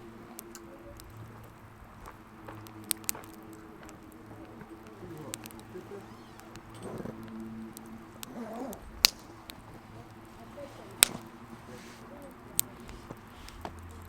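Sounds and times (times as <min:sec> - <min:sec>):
campfire wood popping: 0:00.0 - 0:14.0
low steady background noise: 0:00.0 - 0:14.0.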